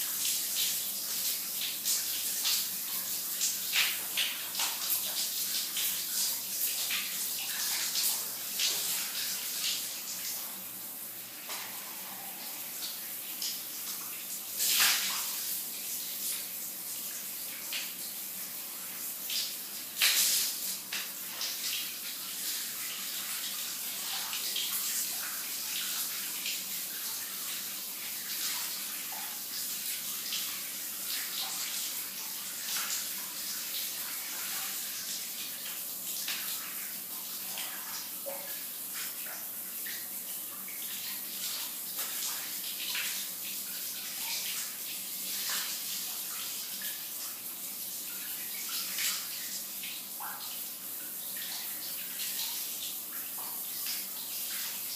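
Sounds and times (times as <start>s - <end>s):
shower running: 0.0s - 54.9s.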